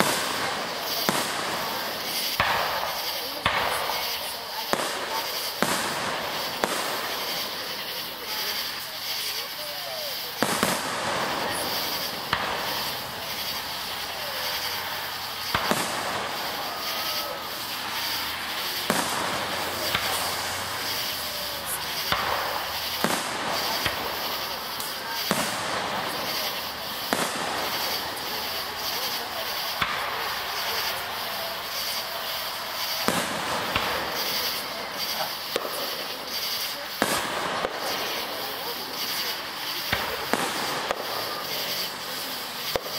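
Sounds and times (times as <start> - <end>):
firework shells bursting: 0.0 - 42.9
steady background noise: 0.0 - 42.9.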